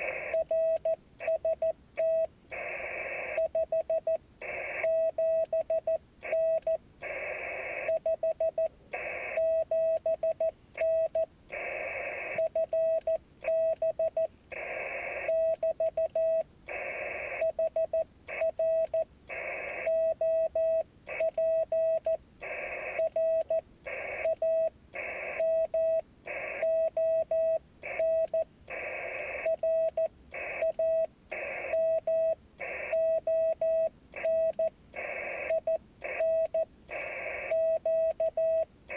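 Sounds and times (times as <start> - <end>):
morse code tone: 0.0 - 38.7.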